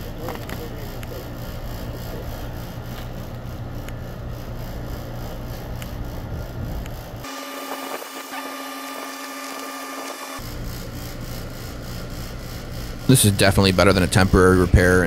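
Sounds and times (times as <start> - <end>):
air conditioning units humming: 0.0 - 15.0.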